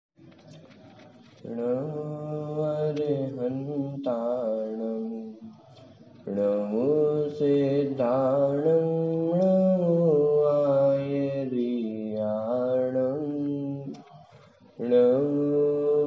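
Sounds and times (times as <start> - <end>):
man chanting: 1.3 - 16.0.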